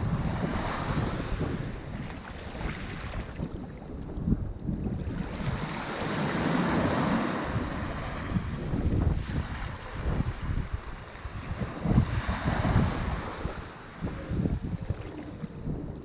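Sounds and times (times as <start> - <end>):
ocean waves breaking: 0.0 - 4.0, 5.0 - 16.0
wind buffeting microphone: 0.0 - 16.0.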